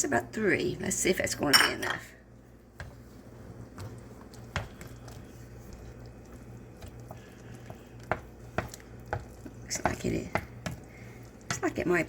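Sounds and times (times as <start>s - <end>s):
soft squishing of bread in pudding: 2.2s - 12.0s.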